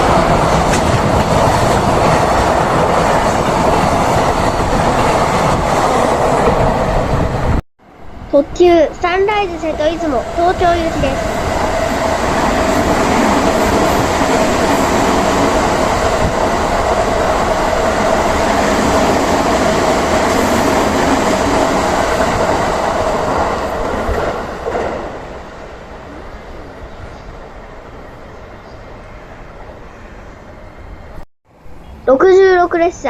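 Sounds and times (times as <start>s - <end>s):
train wheels rushing on rails: 0.0s - 7.6s, 8.3s - 29.0s
train hum: 0.0s - 33.0s.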